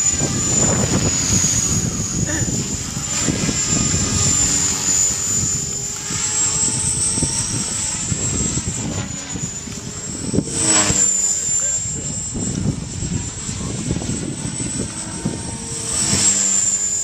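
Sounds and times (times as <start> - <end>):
rc helicopter motor whine: 0.0 - 17.0.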